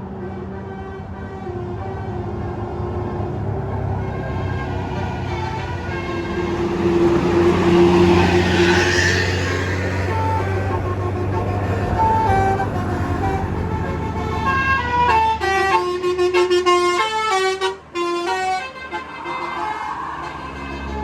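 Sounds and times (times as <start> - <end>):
bus engine humming: 0.0 - 21.0
multi-tone bus horn melody: 0.0 - 21.0.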